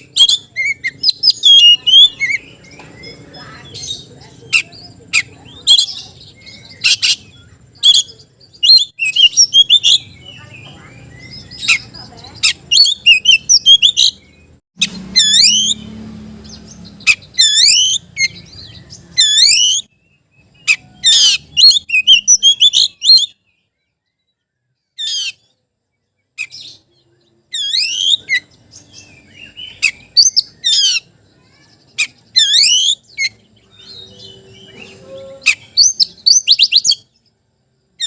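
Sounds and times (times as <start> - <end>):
magpie-robin whistled song: 0.0 - 37.4.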